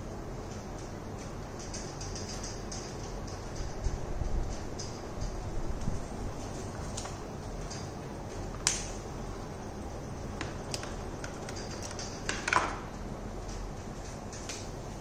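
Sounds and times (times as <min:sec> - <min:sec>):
room noise: 0:00.0 - 0:15.0.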